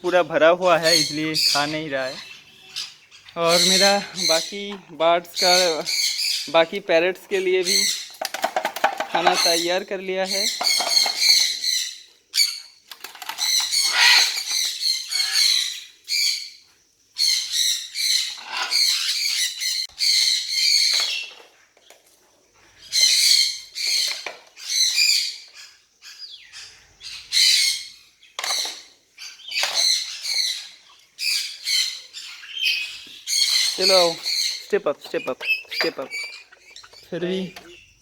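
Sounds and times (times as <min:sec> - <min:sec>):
parrots squawking: 0:00.0 - 0:16.6, 0:17.2 - 0:21.4, 0:22.8 - 0:38.0.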